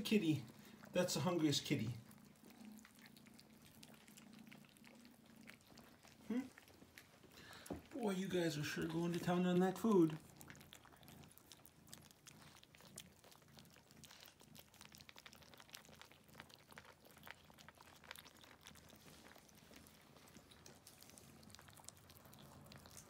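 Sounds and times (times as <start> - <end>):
kittens crunching food: 0.0 - 23.0.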